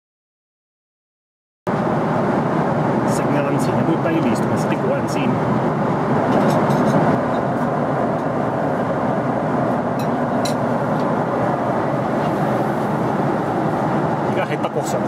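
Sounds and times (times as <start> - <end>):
airliner cabin noise: 1.7 - 15.0.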